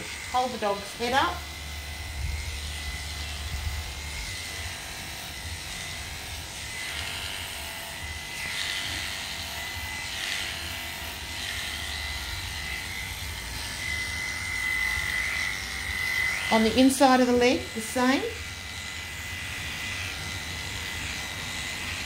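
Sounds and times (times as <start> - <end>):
clippers cutting through fur: 0.0 - 22.0
electric clippers whining: 0.0 - 22.0.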